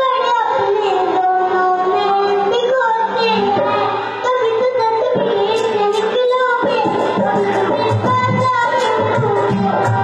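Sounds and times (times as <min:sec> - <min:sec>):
child singing slow melody: 0:00.0 - 0:09.7
musical accompaniment: 0:00.0 - 0:10.0.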